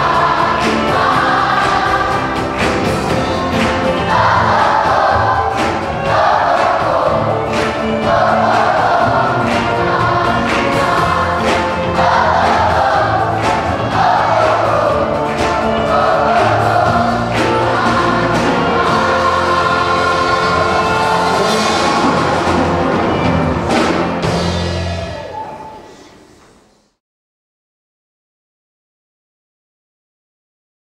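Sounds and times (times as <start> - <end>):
live band playing: 0.0 - 25.8
choir singing: 0.0 - 26.3.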